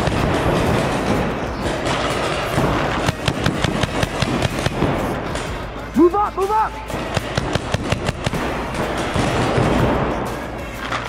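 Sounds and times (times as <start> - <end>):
steady noisy background: 0.0 - 11.0.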